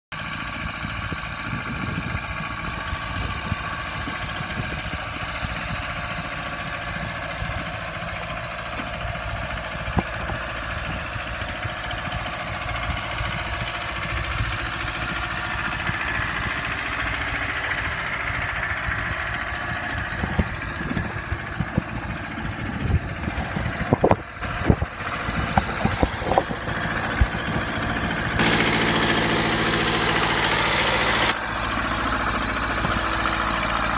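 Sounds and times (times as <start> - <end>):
small diesel engine idling: 0.1 - 33.9.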